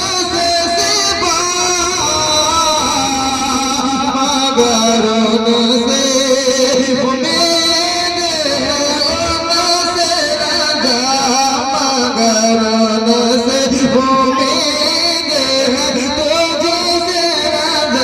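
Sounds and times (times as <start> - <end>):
man singing long notes: 0.0 - 18.0.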